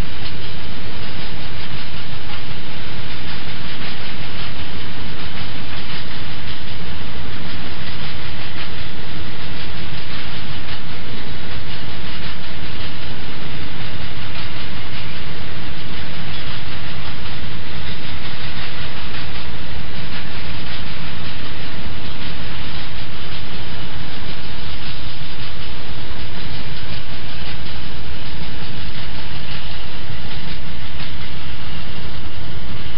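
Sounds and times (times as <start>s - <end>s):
freight train wheels rumbling: 0.0s - 32.9s.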